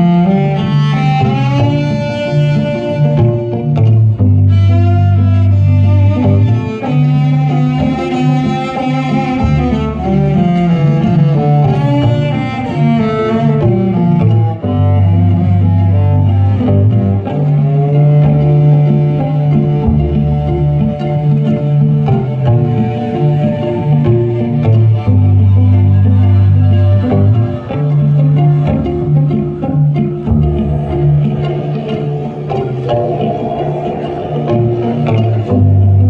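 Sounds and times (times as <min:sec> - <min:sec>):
bowed cello melody: 0:00.0 - 0:36.0.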